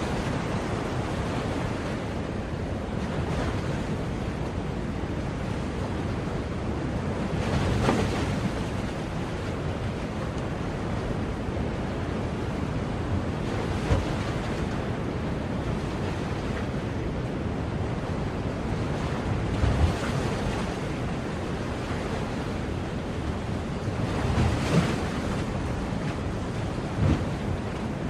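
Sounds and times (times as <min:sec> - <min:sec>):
ocean surf washing on shore: 0:00.0 - 0:28.0.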